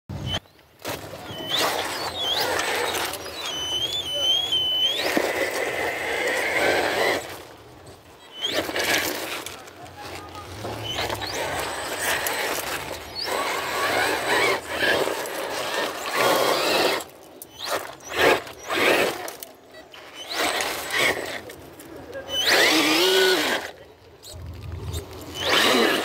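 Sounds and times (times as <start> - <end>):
rc car electric motor whining: 1.2 - 7.5, 8.3 - 9.5, 10.5 - 21.6, 22.2 - 26.0.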